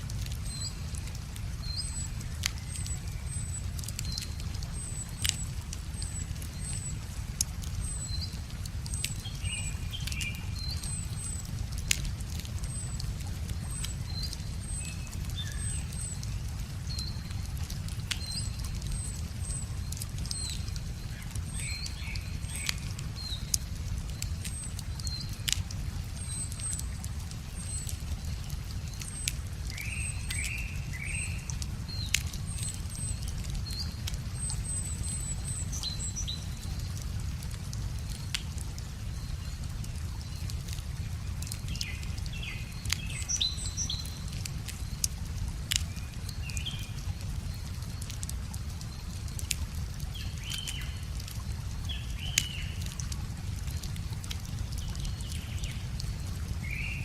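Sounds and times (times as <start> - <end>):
river water running: 0.0 - 57.0
wood fire crackling: 0.0 - 57.0.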